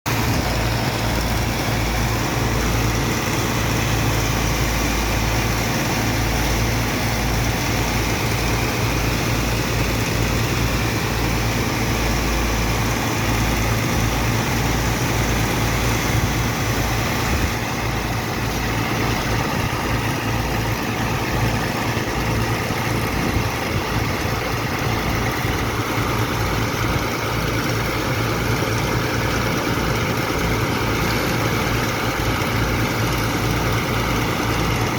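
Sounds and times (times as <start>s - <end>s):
broad rushing noise: 0.1s - 34.9s
diesel engine and pump drone: 0.1s - 34.9s.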